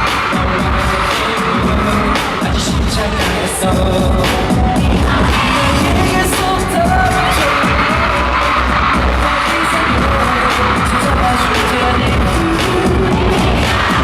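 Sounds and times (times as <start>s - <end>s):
loud amplified pop music: 0.0s - 14.0s
singing: 0.0s - 14.0s.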